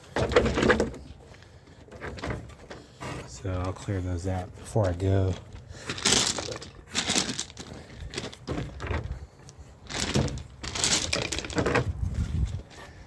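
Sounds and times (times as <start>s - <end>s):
gravel crunching and clattering: 0.1s - 13.0s.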